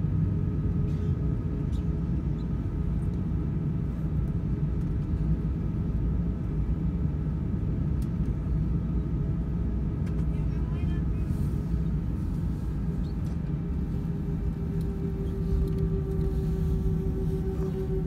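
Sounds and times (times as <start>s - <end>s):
airliner cabin rumble while taxiing: 0.0s - 18.0s
faint steady hum: 0.0s - 18.0s.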